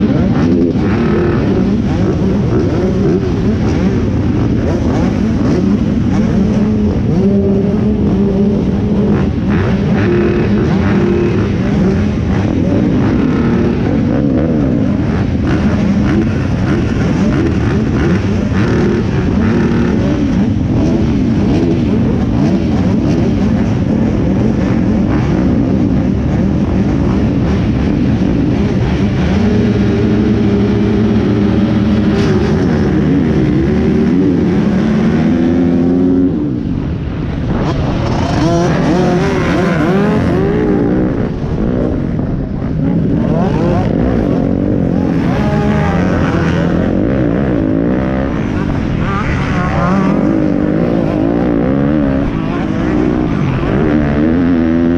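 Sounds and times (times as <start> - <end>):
pit bike engines revving: 0.0 - 54.9.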